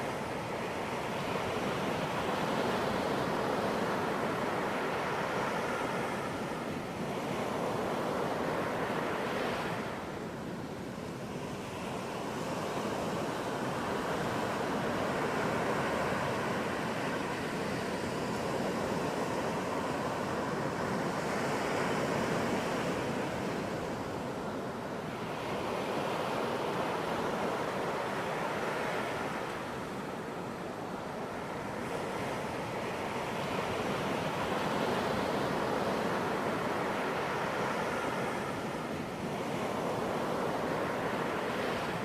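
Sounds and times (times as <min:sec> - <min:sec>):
ocean waves breaking on beach: 0:00.0 - 0:42.0.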